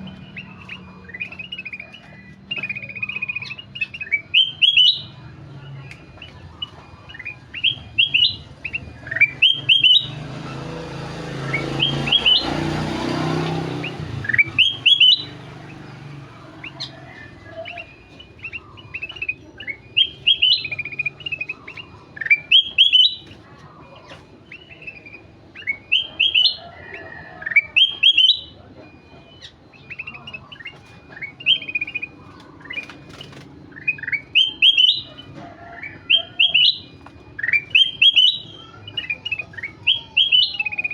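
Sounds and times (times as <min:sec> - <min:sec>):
bird singing whistled notes: 0:00.0 - 0:10.7, 0:11.4 - 0:12.7, 0:13.3 - 0:23.3, 0:23.9 - 0:40.9.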